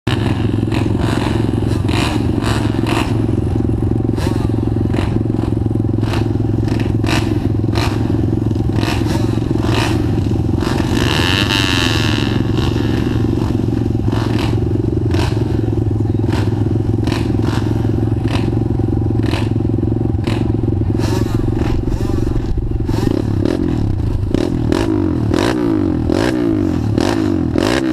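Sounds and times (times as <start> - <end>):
high engine whine: 0.1 - 27.9
motorbike engine running: 0.1 - 27.9.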